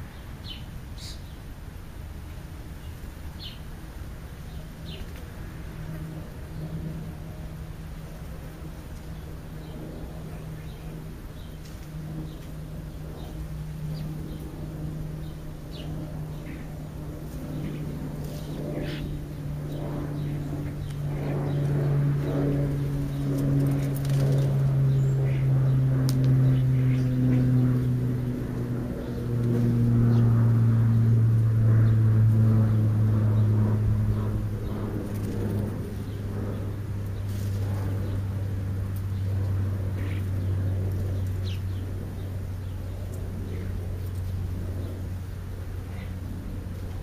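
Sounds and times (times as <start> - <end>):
distant engine droning: 0.0 - 47.0.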